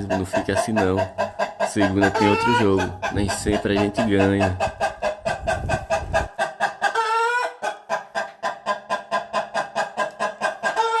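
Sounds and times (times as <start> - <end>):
chicken clucking: 0.0 - 11.0.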